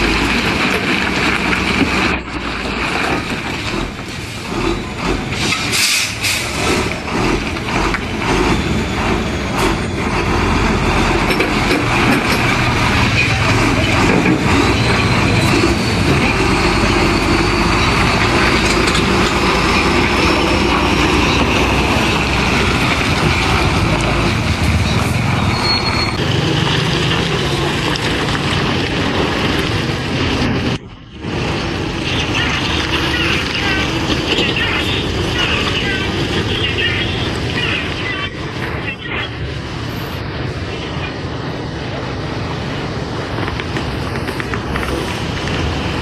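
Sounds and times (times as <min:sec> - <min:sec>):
diesel truck engine rumbling: 0:00.0 - 0:46.0.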